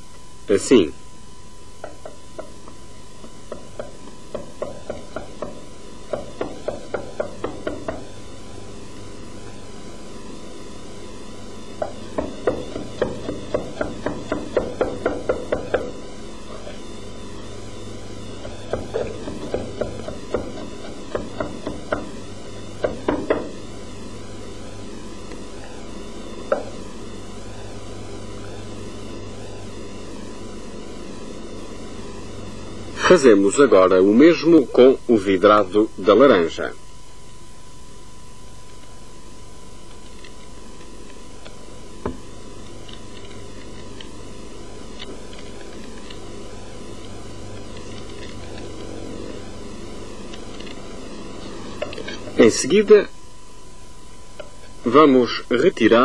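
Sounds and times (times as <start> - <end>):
low hum and hiss: 0.0 - 56.0.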